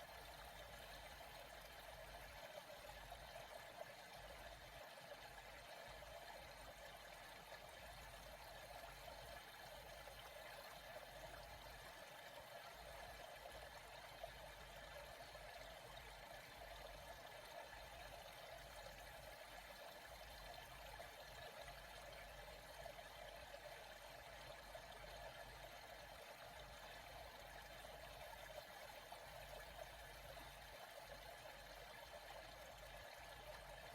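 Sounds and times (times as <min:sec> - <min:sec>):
faint trickling water: 0:00.0 - 0:33.9.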